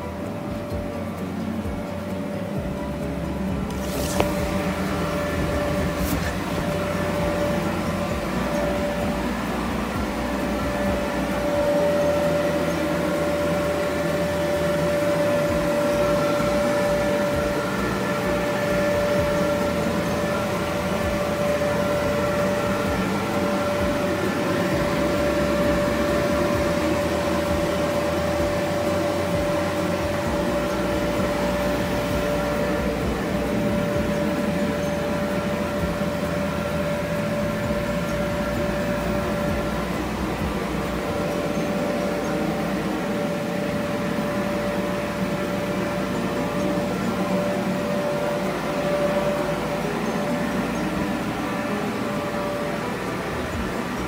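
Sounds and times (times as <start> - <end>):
inflation blower fan running: 0.0 - 54.0.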